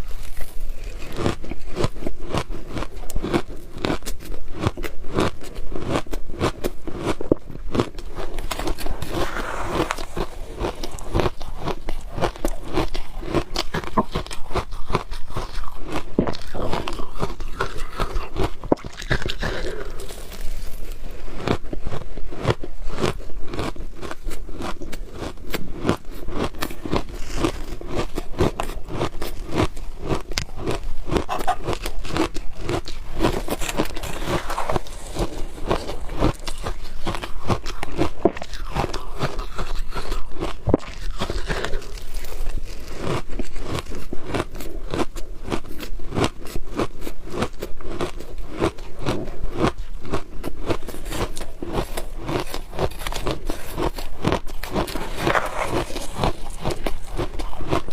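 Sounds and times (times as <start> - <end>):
crunching shaved ice: 0.0 - 57.9.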